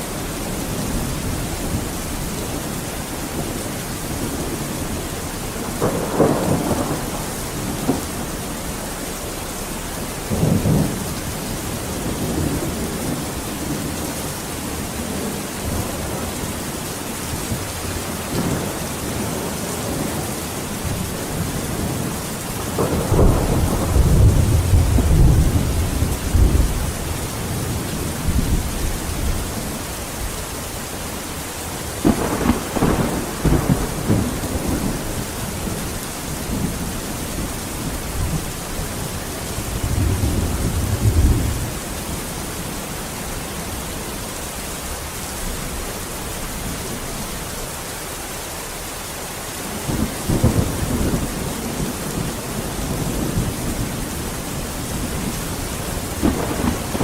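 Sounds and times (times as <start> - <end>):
thunder rumbling: 0.0 - 43.8, 49.6 - 57.0
steady rain: 0.0 - 57.0.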